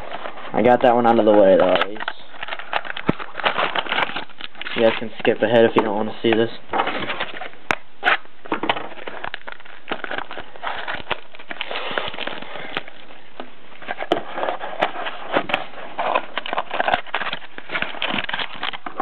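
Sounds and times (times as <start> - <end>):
cardboard boxes rustling and clicking: 0.0 - 19.0.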